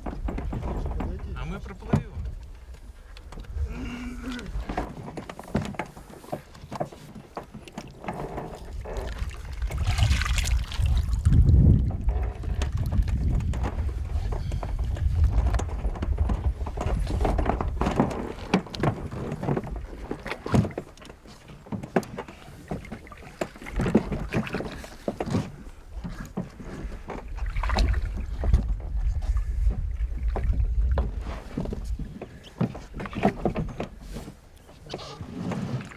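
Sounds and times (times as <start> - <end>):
wind rumbling on microphone: 0.0 - 5.0, 8.5 - 20.8, 23.6 - 35.6
oars splashing and knocking: 0.0 - 35.9.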